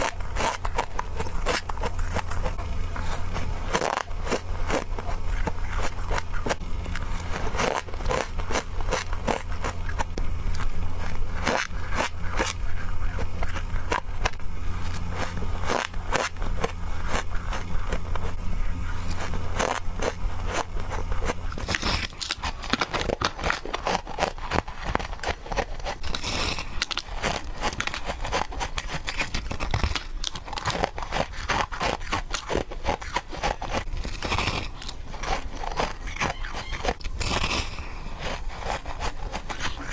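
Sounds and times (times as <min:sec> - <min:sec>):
crunching of frost: 0:00.0 - 0:39.9
low steady hum: 0:00.0 - 0:39.9.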